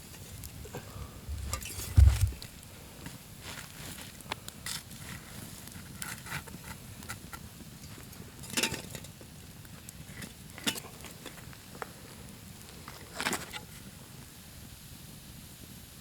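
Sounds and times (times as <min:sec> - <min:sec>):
campfire crackling and popping: 0:00.0 - 0:15.8.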